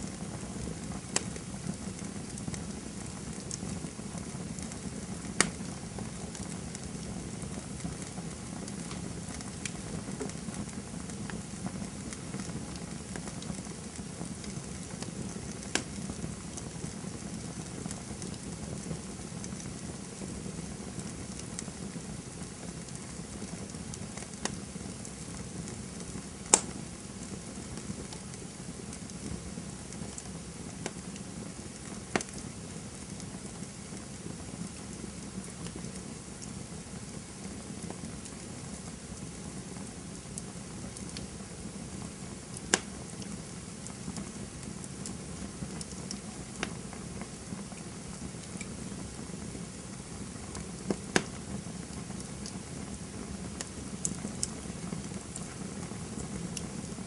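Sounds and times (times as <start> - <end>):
campfire hissing: 0.0 - 57.0
wood crackling and popping: 0.0 - 57.0.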